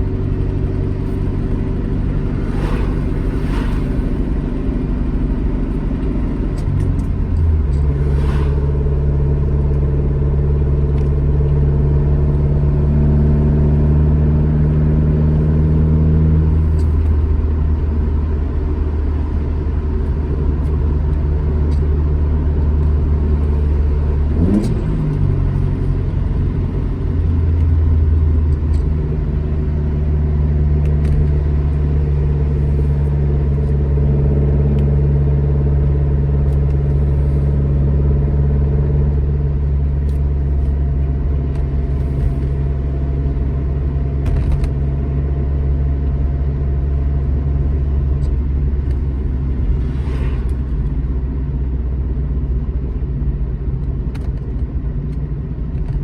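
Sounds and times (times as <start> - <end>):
car engine pulling on road: 0.0 - 56.0.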